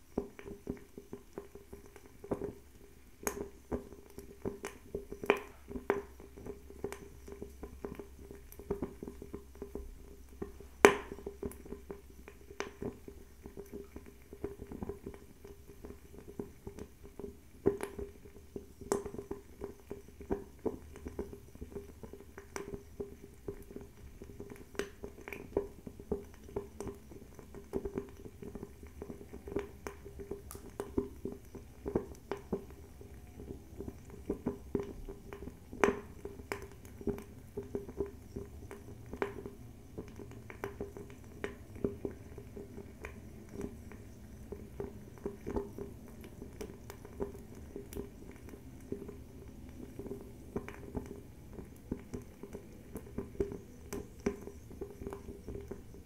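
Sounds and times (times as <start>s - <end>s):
fireplace crackling: 0.0s - 56.0s.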